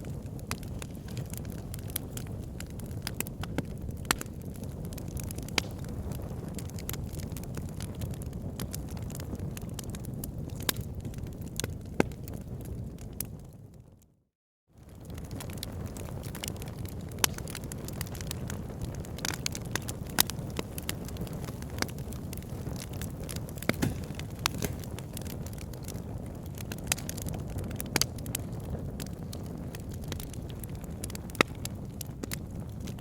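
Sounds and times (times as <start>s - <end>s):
wood fire crackling: 0.0s - 13.6s, 14.8s - 33.0s.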